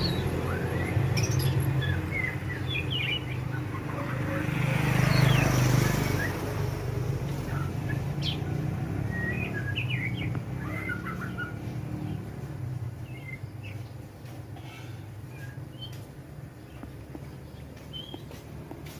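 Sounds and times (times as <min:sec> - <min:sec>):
bird chirping and twittering: 0:00.0 - 0:18.9.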